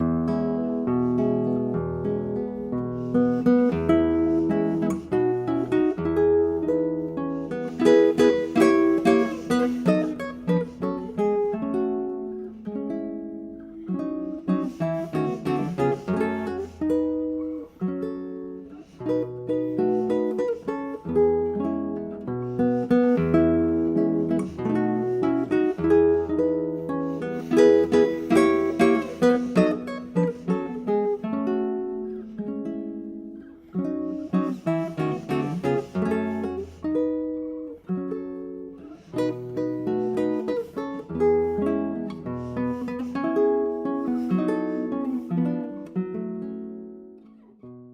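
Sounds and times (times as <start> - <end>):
acoustic guitar chords: 0.0 - 47.9.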